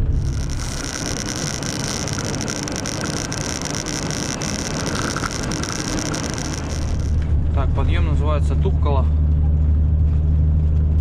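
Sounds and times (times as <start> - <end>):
truck road and engine noise: 0.0 - 11.0.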